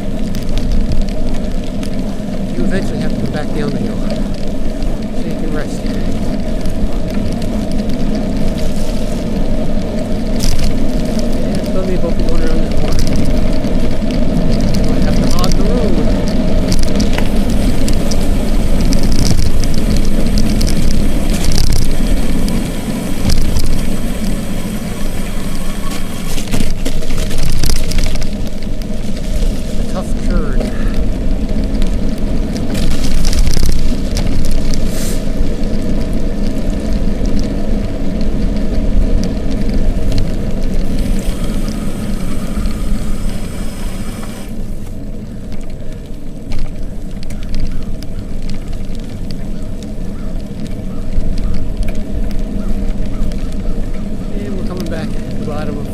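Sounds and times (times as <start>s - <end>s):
tyres on wet slushy road: 0.0s - 55.9s
wind rumbling on microphone: 0.0s - 55.9s.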